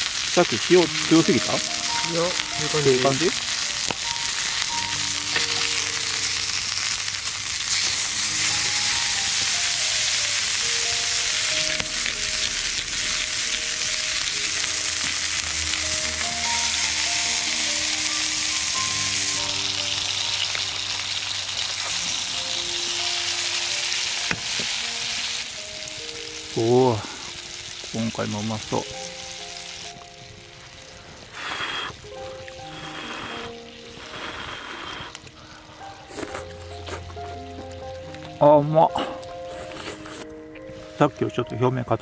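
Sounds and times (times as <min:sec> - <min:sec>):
meat sizzling in a skillet: 0:00.0 - 0:38.4
soft background music: 0:00.0 - 0:42.0.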